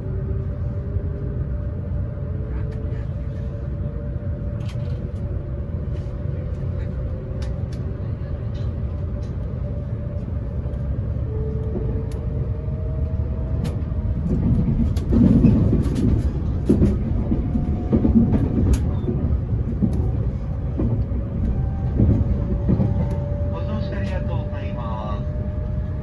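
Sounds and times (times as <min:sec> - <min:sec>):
train cabin low rumble: 0:00.0 - 0:26.0.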